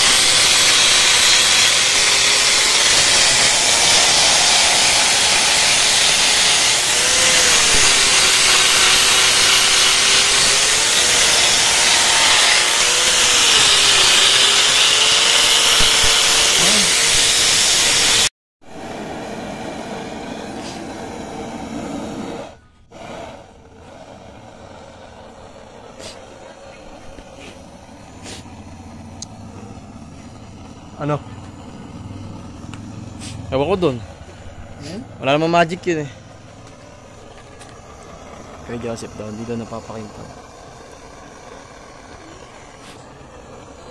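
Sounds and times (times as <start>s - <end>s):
angle grinder grinding metal: 0.0s - 43.9s.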